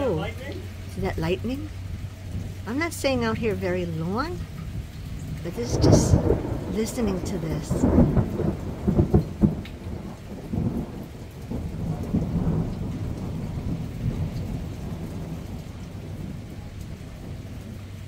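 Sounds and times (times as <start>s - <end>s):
steady rain: 0.0s - 18.0s
thunder cracking and rumbling: 0.0s - 18.0s.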